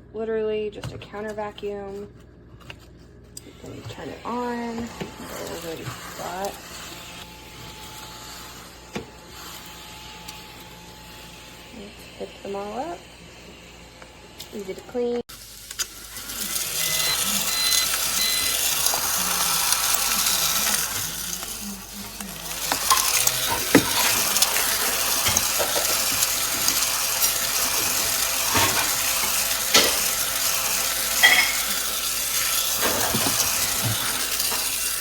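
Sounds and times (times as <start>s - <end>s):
small vacuum cleaner hissing: 3.4s - 35.0s.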